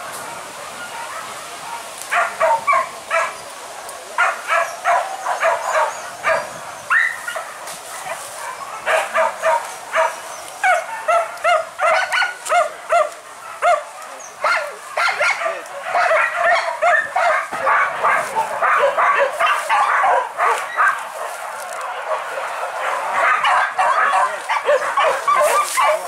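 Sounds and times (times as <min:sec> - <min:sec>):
dogs yelping and barking: 0:04.2 - 0:26.0.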